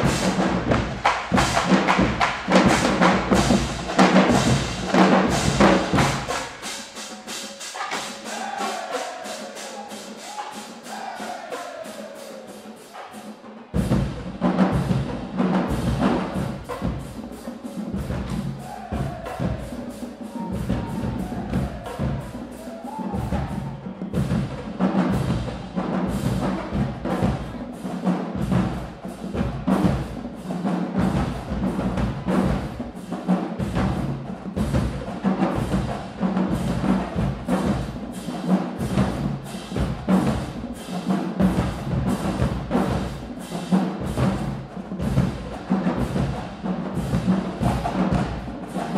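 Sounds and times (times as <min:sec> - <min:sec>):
snare drum strokes: 0:00.0 - 0:48.9.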